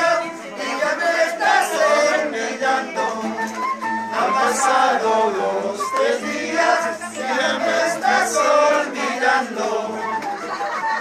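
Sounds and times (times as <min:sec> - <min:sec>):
group singing folk song: 0:00.0 - 0:11.0
instrumental accompaniment: 0:00.0 - 0:11.0.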